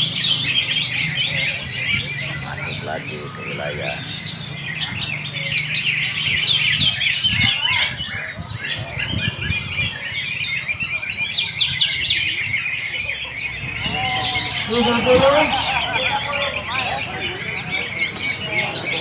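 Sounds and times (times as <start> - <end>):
canaries singing: 0.0 - 19.0.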